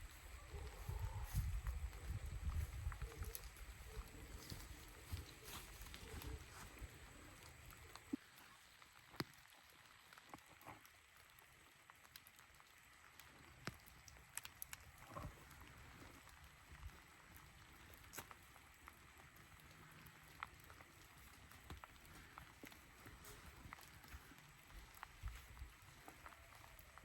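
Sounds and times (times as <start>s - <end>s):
faint rain hiss: 0.0s - 27.0s
raindrops ticking: 1.2s - 27.0s.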